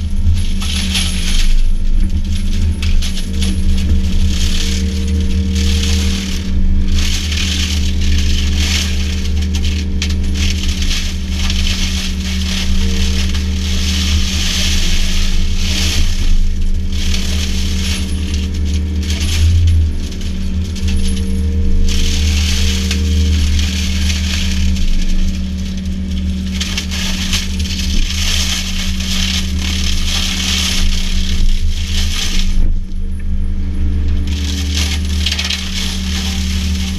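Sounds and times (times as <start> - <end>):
excavator diesel engine running: 0.0 - 36.9
mulcher shredding vegetation: 0.0 - 36.9
rattling crackling debris: 0.0 - 36.9.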